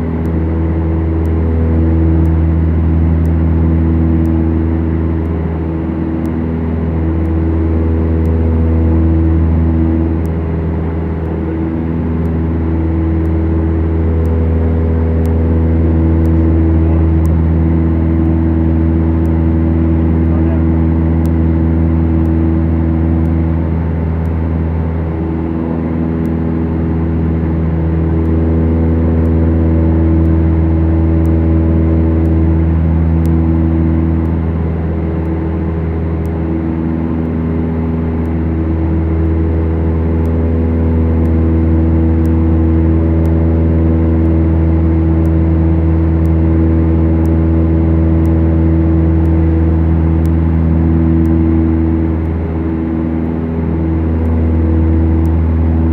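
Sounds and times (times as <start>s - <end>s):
aircraft piston engines droning: 0.0s - 55.9s.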